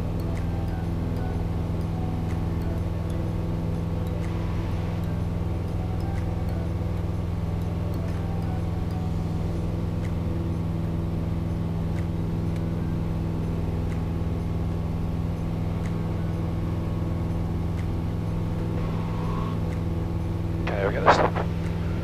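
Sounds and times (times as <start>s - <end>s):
aircraft engine and propeller drone: 0.0s - 22.0s.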